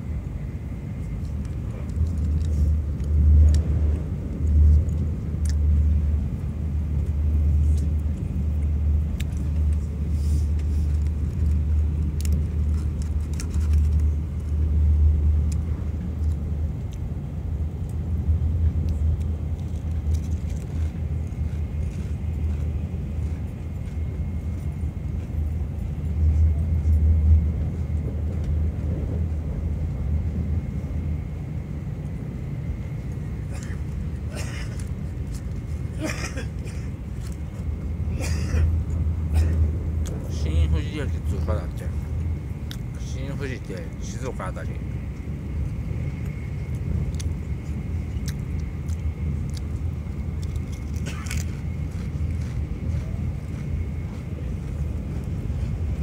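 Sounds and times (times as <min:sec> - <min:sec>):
faint high whine: 0:00.0 - 0:56.0
train rumbling at speed: 0:00.0 - 0:56.0.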